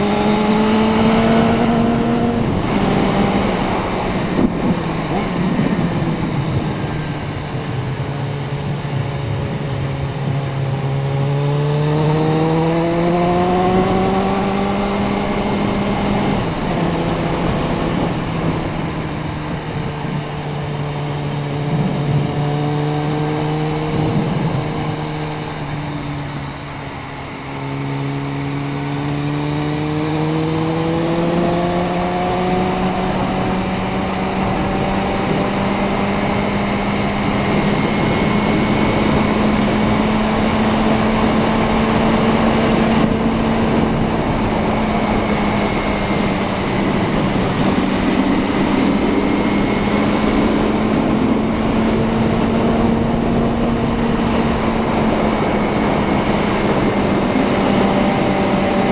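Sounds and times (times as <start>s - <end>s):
motorcycle engine under way: 0.0s - 58.9s
wind and road noise: 0.0s - 58.9s.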